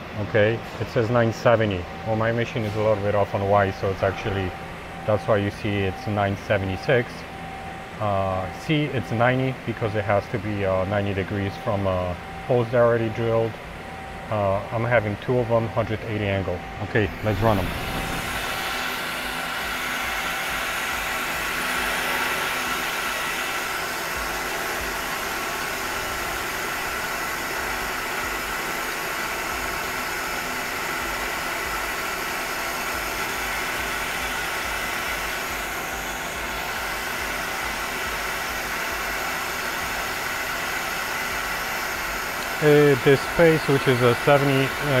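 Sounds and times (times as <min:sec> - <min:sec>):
lathe humming and hissing: 0:00.0 - 0:45.0.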